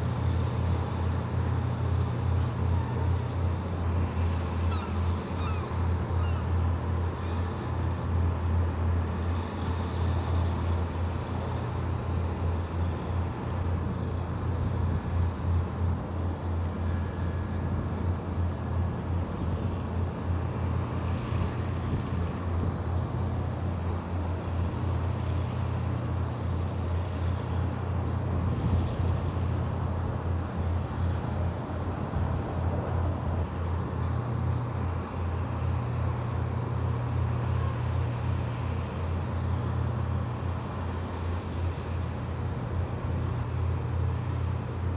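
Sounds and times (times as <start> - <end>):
low engine drone: 0.0 - 44.9
outdoor background noise: 0.0 - 44.9.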